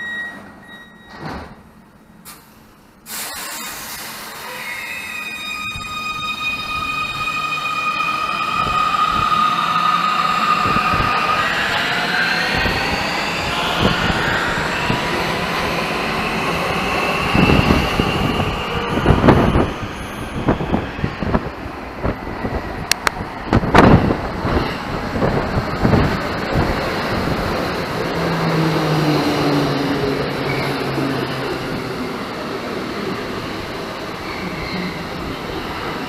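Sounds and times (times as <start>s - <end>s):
electric train drive whining: 5.7s - 36.0s.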